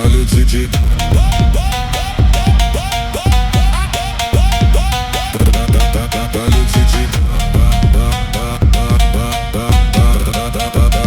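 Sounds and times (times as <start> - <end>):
instrumental phonk music: 0.0 - 11.0.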